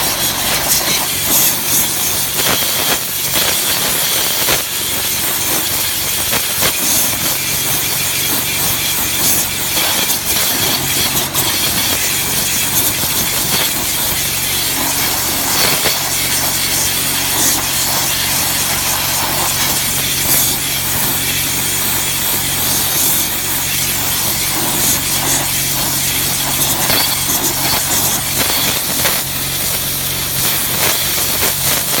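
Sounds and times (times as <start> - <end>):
pressure washer motor drone: 0.0 - 32.0
pressure washer spray hiss: 0.0 - 32.0.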